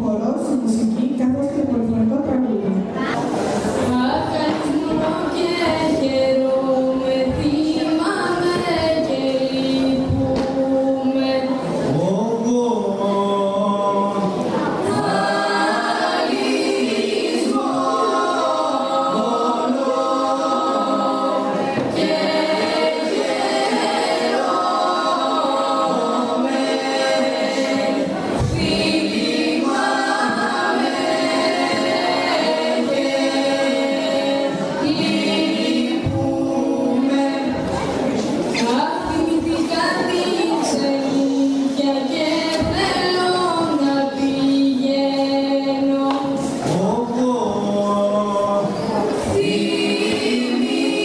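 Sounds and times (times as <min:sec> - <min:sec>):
children singing together: 0:03.0 - 0:12.2, 0:12.9 - 0:51.0.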